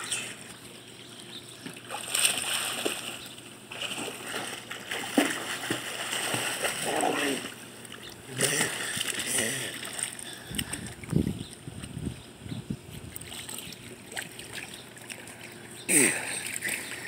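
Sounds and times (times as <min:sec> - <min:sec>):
water splashing in a pool: 0:01.6 - 0:12.0, 0:12.9 - 0:17.0.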